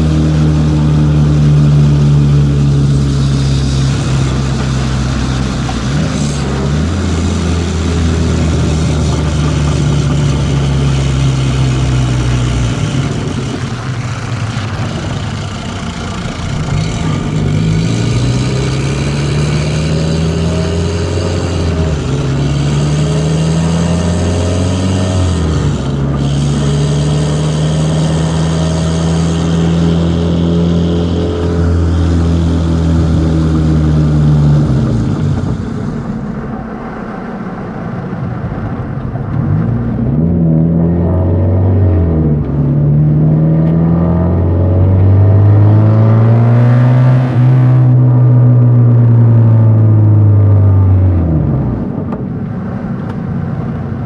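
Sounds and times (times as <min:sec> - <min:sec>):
car engine accelerating through gears: 0:00.0 - 0:54.0.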